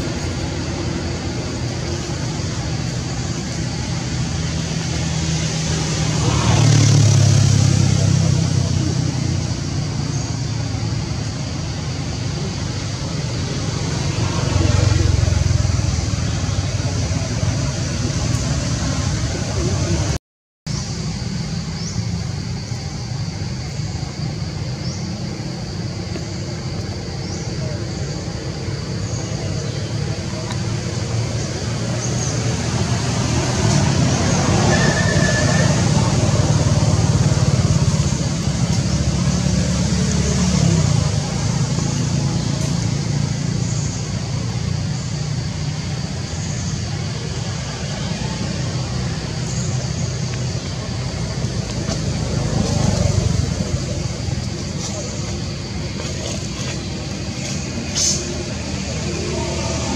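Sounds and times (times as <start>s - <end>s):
high hiss: 0.0s - 59.9s.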